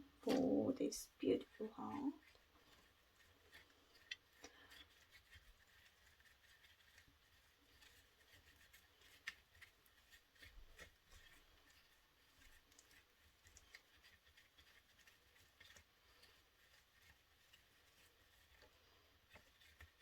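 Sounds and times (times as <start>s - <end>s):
paintbrush clicking and scratching: 0.0s - 20.0s.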